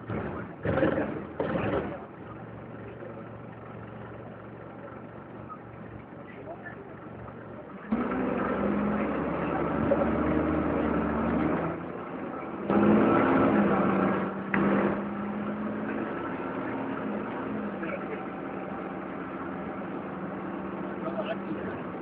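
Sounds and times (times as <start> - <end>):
bus diesel engine accelerating: 0.0 - 22.0.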